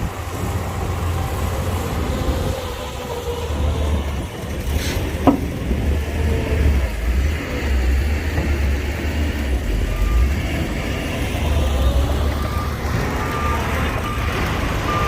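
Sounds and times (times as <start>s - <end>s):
heavy diesel machinery rumbling: 0.0s - 15.0s.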